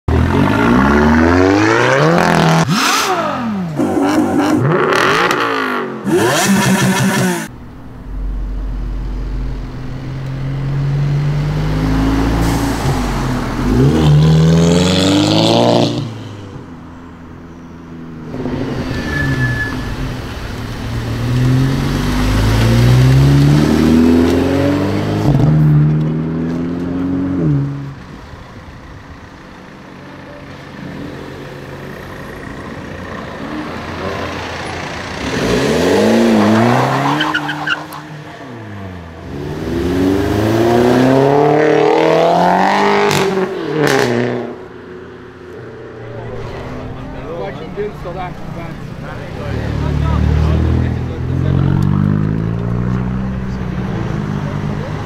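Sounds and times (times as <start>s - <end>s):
car engines accelerating hard: 0.1s - 7.5s, 8.4s - 18.9s, 19.8s - 55.0s.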